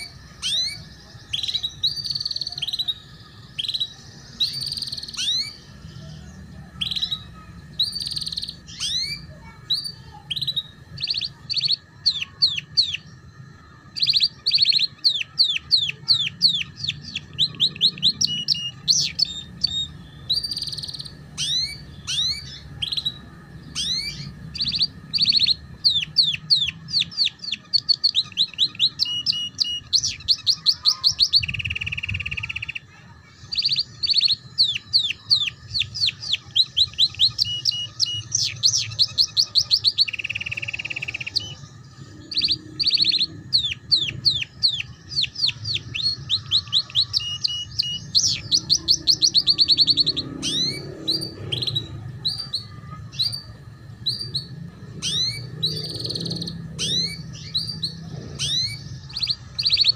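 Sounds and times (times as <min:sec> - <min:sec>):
canary singing rapid trills: 0:00.0 - 0:59.9.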